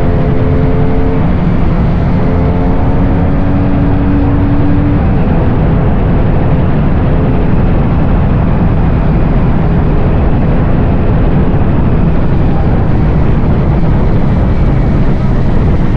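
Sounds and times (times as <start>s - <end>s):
motorcycle engine: 0.0s - 15.9s
wind rushing: 0.0s - 15.9s.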